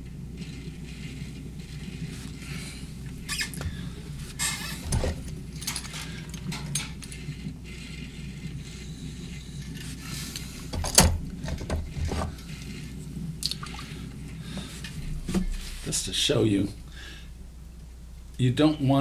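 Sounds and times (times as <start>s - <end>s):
potter's wheel humming: 0.0s - 19.0s.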